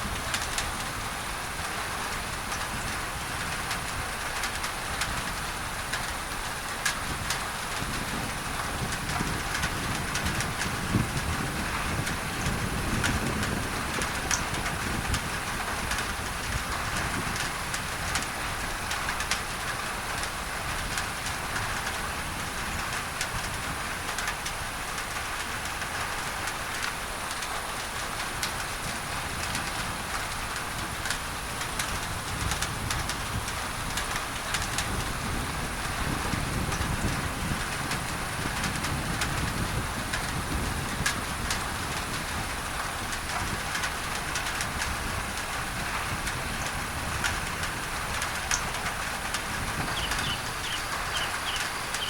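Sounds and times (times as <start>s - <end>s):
rain on a tin roof: 0.0s - 52.0s.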